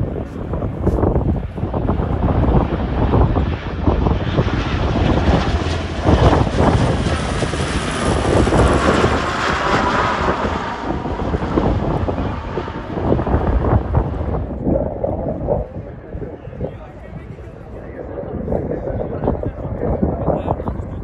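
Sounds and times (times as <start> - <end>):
turboprop aircraft flying by: 0.0 - 21.0.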